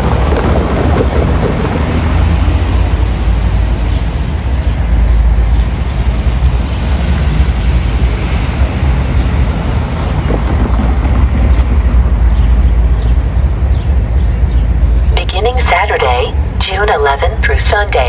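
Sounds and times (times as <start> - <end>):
wind on microphone: 0.0 - 15.2
rushing noise: 0.0 - 18.0
train passing rumble: 0.0 - 18.0.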